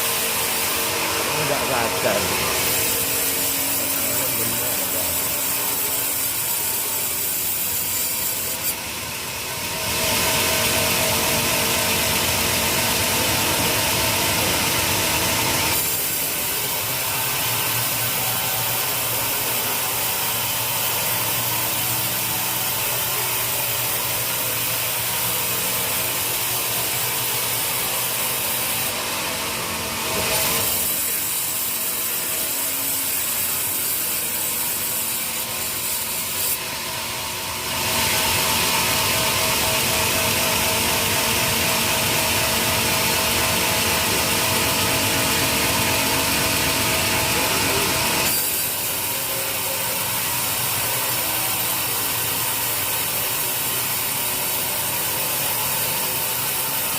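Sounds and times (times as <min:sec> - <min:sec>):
saw cutting wood: 0:00.0 - 0:56.9.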